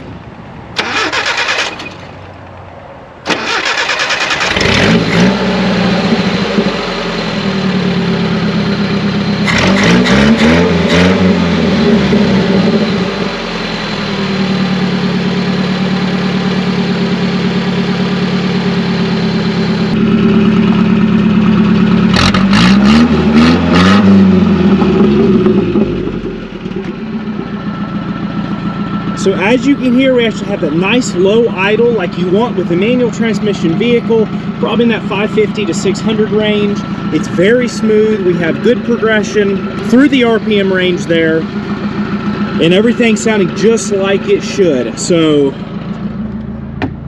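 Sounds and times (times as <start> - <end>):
engine revving and idling: 3.3 - 47.0.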